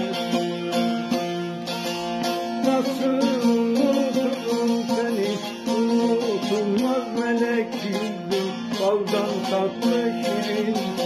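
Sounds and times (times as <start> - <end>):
plucked lute melody: 0.0 - 11.0.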